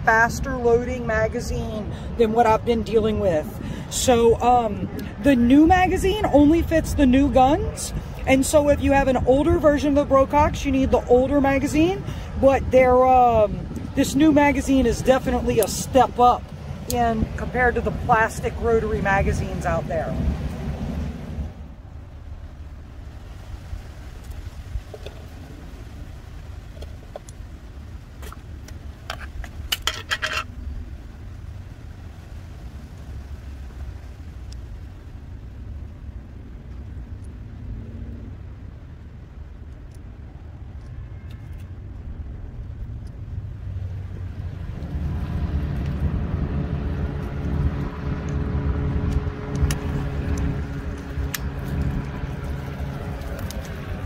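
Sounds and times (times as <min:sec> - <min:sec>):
engine drone: 0:00.0 - 0:41.3, 0:42.0 - 0:54.0
wind rumble on microphone: 0:00.0 - 0:54.0.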